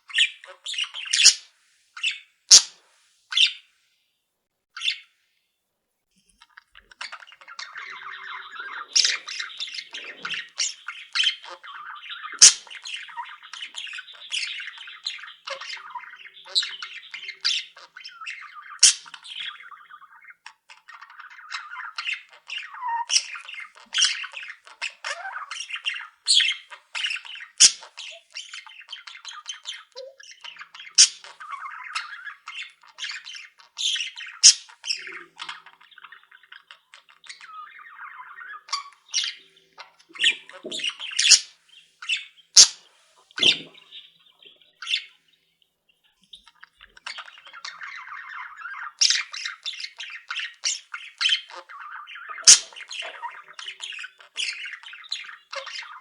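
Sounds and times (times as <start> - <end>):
high bird squawks and chirps: 0.0 - 3.6, 6.4 - 45.2, 46.2 - 56.0
cage birds chattering: 0.0 - 3.7, 4.8 - 5.2, 6.3 - 56.0.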